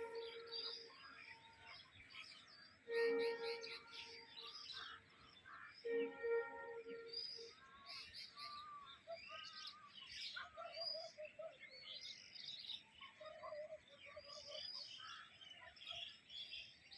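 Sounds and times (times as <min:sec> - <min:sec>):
birds chirping and whistling: 0:00.0 - 0:16.8.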